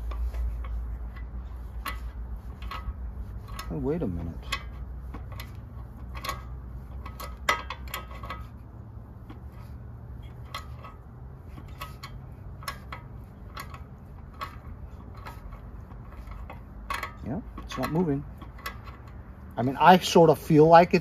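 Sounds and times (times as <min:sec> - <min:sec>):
low steady hum: 0:00.0 - 0:21.0
metallic clicks of engine crank: 0:00.0 - 0:21.0.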